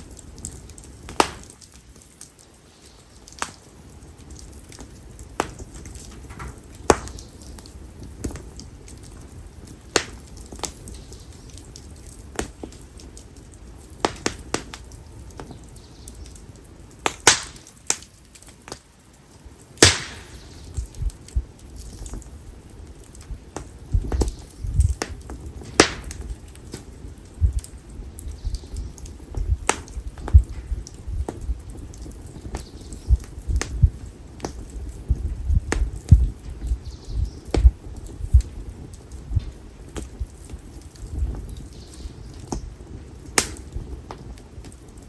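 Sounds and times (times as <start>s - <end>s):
campfire crackling and popping: 0.0s - 45.0s
low flame rumble: 0.0s - 45.0s.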